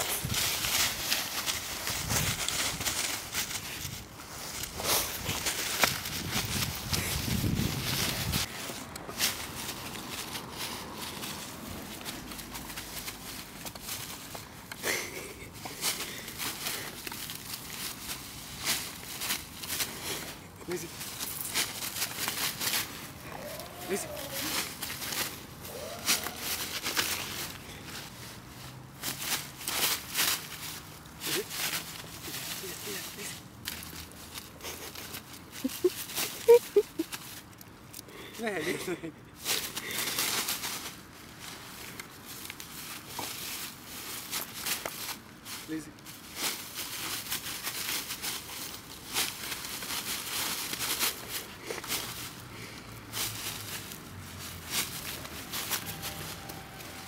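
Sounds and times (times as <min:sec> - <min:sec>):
dry leaves crunching underfoot: 0:00.0 - 0:57.0.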